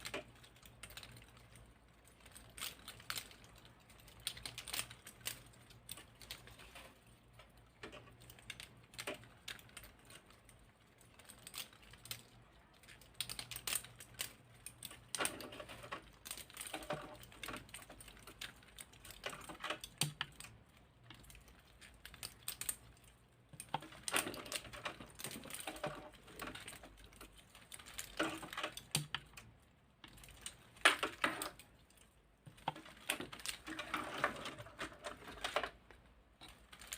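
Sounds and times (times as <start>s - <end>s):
plastic segments clicking and rattling: 0.0s - 36.9s.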